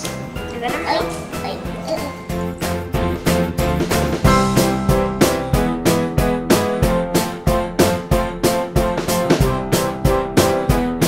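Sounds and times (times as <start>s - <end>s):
bouncy keyboard tune: 0.0s - 11.0s.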